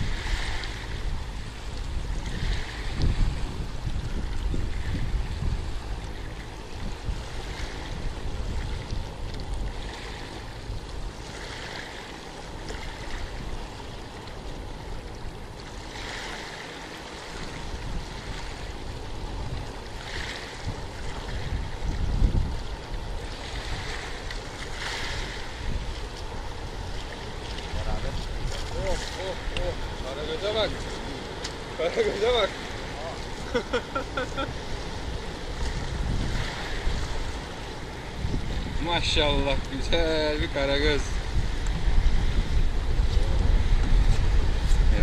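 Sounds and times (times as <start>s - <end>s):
wind gusting on microphone: 0.0s - 12.0s, 17.2s - 45.0s
sea waves washing onto shore: 0.0s - 45.0s.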